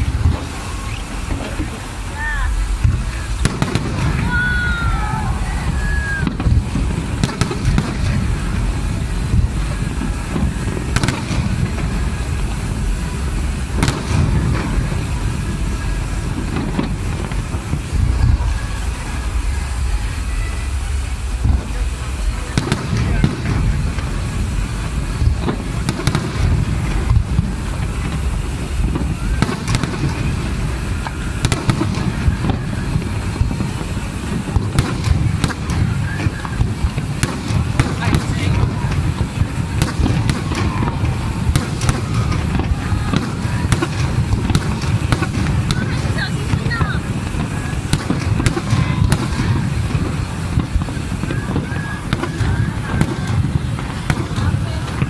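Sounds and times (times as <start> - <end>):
fireworks booming: 0.0 - 55.0
sharp firework cracks: 0.0 - 55.0.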